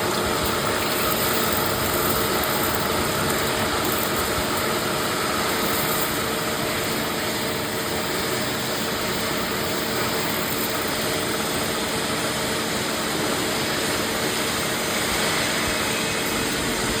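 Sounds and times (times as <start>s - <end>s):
machine whirring: 0.0s - 17.0s.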